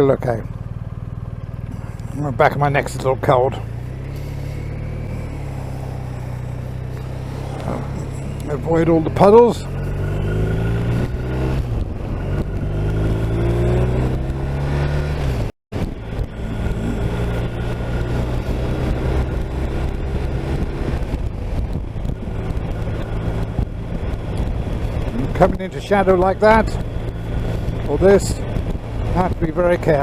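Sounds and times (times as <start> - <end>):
motorcycle engine accelerating: 0.0 - 30.0
wind and road noise: 0.0 - 30.0.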